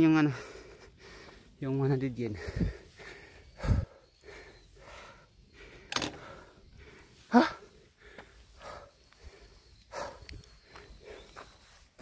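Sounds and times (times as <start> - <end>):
person breathing hard: 0.2 - 1.6, 2.3 - 11.8.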